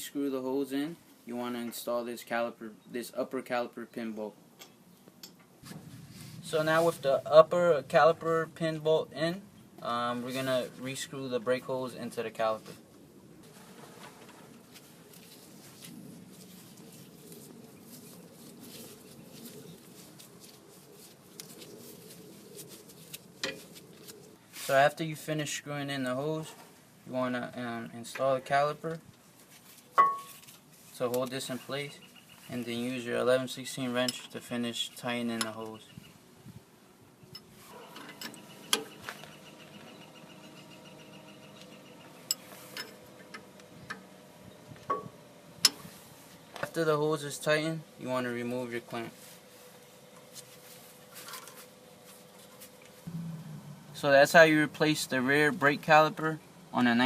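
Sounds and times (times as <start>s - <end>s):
low steady hum: 0.1s - 57.0s.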